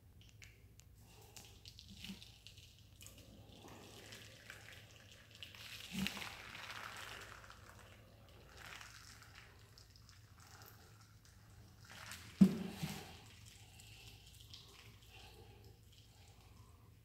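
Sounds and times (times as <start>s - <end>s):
paint dripping onto plastic: 0.0s - 17.0s.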